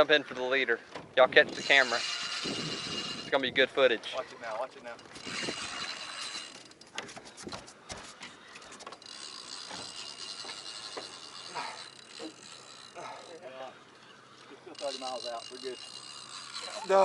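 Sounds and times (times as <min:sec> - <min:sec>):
fishing reel ratcheting: 0:01.3 - 0:07.0, 0:08.4 - 0:17.0.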